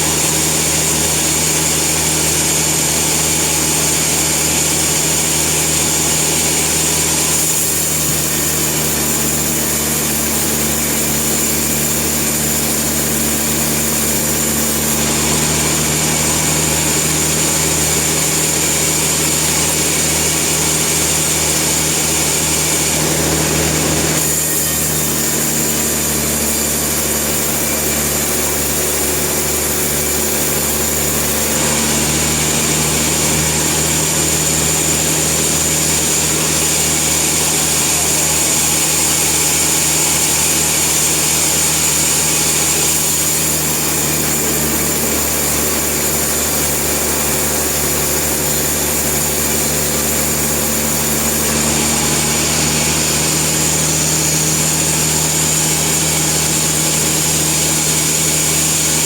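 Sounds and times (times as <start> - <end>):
saw blade whine: 0.0 - 59.0
sawmill motor drone: 0.0 - 59.0.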